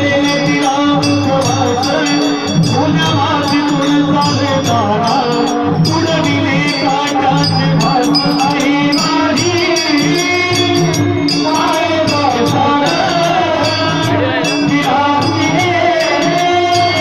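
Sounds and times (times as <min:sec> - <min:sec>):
person singing devotional song: 0:00.0 - 0:17.0
small metal cymbals jingling: 0:00.0 - 0:17.0
steady drum beat: 0:00.0 - 0:17.0.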